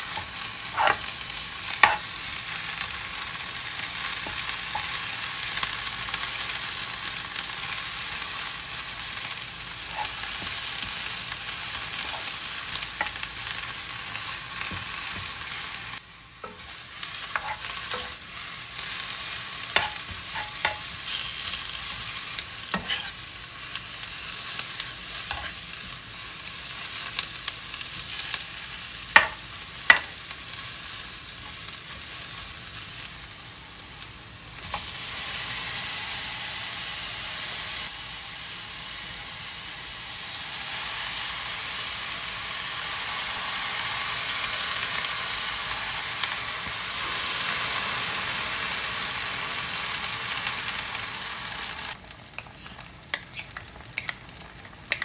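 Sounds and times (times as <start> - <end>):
oil sizzling in a wok: 0.0 - 55.0.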